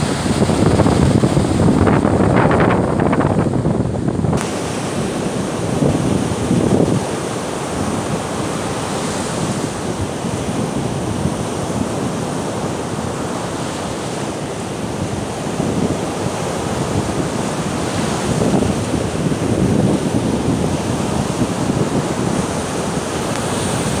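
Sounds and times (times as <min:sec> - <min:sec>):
storm waves breaking on beach: 0:00.0 - 0:24.0.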